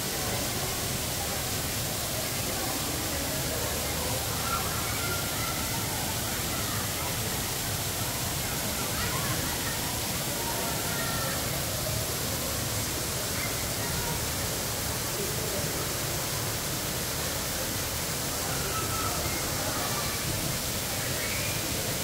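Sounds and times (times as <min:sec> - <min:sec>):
waterfall splashing into pool: 0:00.0 - 0:22.0.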